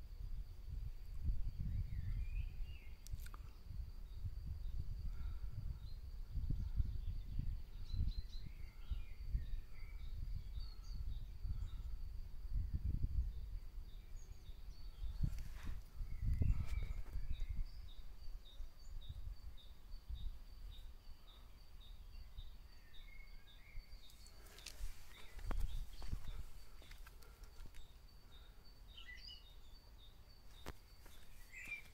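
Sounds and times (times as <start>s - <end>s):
wind buffeting microphone: 0.0s - 21.1s, 21.9s - 27.8s
faint bird chirps: 0.3s - 31.9s.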